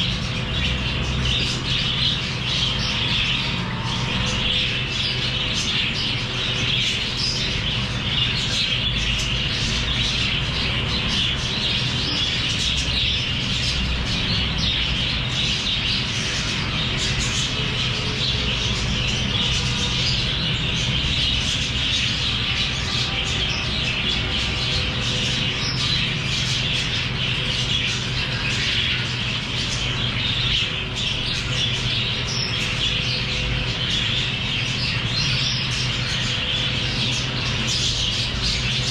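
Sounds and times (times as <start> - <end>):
lovebirds chirping and squawking: 0.0 - 38.9
steady low hum: 0.0 - 38.9.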